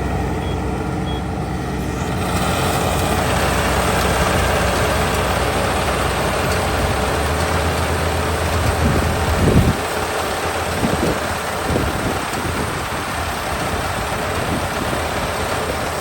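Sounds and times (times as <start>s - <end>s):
combine harvester engine hum: 0.0s - 16.0s
machinery rushing noise: 0.0s - 16.0s.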